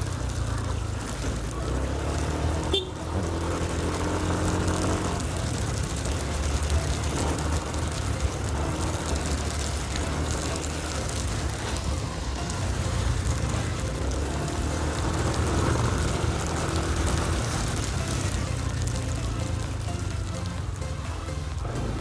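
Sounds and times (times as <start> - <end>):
scooter engine running: 0.0 - 22.0.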